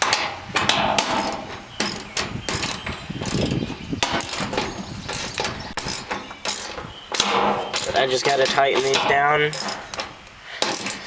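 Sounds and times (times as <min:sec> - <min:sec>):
metal mechanism clicking and rattling: 0:00.0 - 0:11.0.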